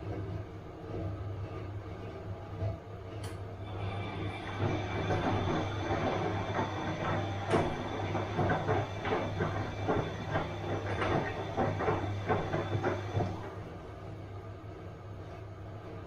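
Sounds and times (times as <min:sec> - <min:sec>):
washing machine running: 0:00.0 - 0:16.0.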